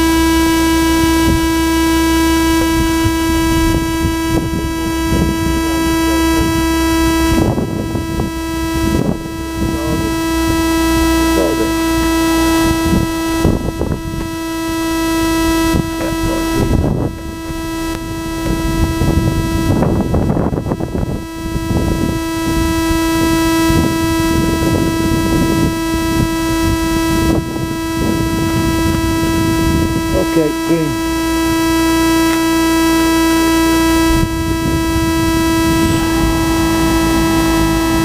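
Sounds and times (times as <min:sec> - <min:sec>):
drone electronic whine: 0:00.0 - 0:38.0
wind buffeting microphone: 0:01.0 - 0:14.8, 0:15.4 - 0:30.2, 0:33.7 - 0:38.0.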